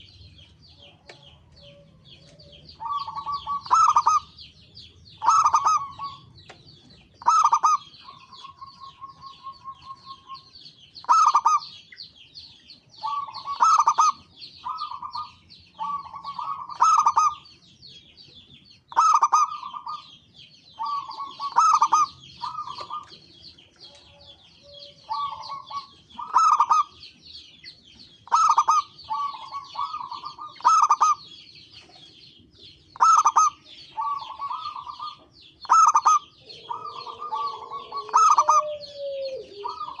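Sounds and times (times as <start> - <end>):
doves cooing: 0.7 - 4.5, 5.2 - 11.8, 13.0 - 17.4, 18.9 - 27.0, 28.2 - 40.0.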